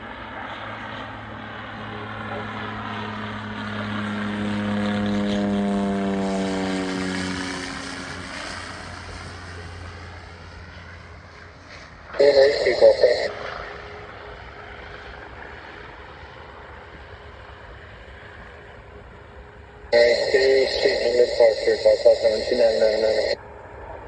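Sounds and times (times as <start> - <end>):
propeller airplane flying overhead: 0.0 - 24.0.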